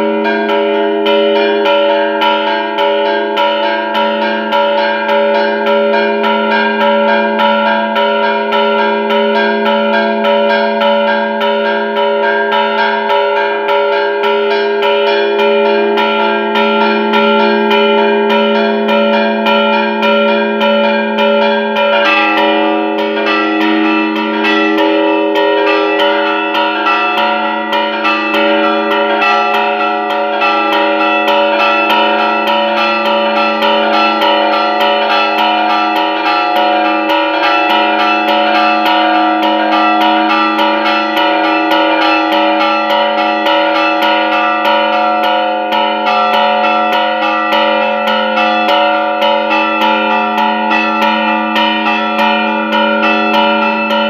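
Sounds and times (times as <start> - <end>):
church bells ringing rapidly: 0.0 - 54.0.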